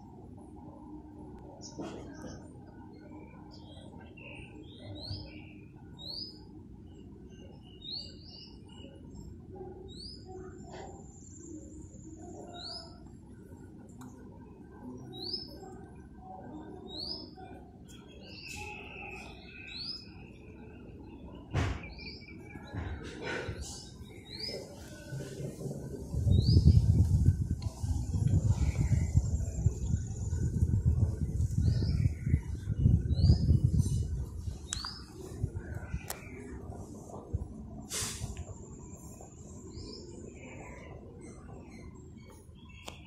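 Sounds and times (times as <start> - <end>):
small birds chirping: 1.6 - 25.4, 26.1 - 37.0.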